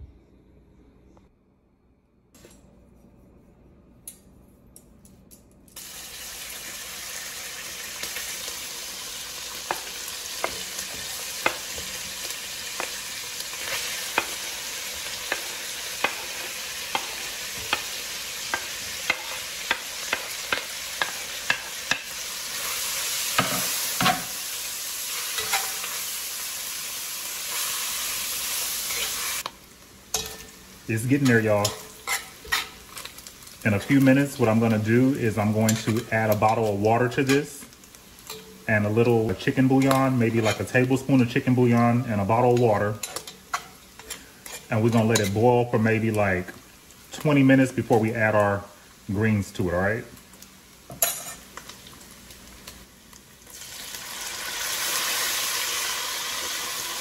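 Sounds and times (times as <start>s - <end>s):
bacon and onion sizzling: 5.8s - 57.0s.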